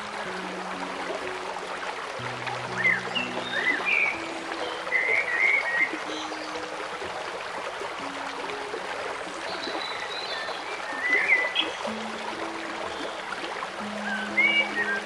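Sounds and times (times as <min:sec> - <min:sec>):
running water: 0:00.0 - 0:15.0
soft music with low notes: 0:00.0 - 0:15.0.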